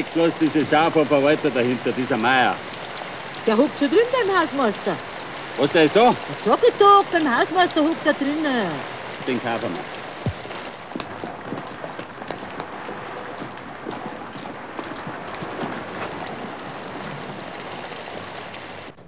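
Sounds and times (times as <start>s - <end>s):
drops ticking on hard surfaces: 0.0s - 18.5s
steady rain falling: 0.0s - 19.0s.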